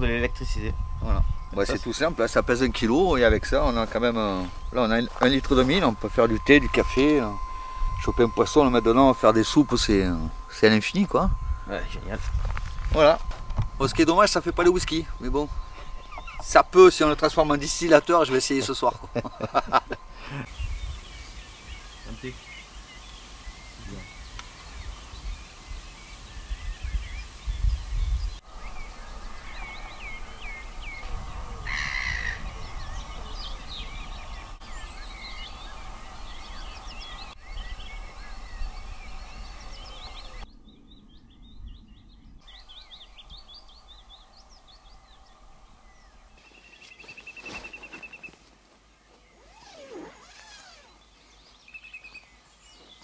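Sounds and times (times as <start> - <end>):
wild birds chirping and singing: 0.0 - 12.2, 13.7 - 53.0
wind rumble on microphone: 0.0 - 17.9, 20.0 - 22.4, 23.7 - 46.4.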